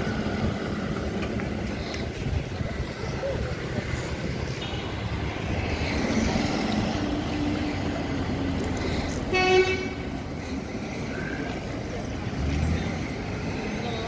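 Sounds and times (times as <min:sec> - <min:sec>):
street and traffic noise: 0:00.0 - 0:14.0.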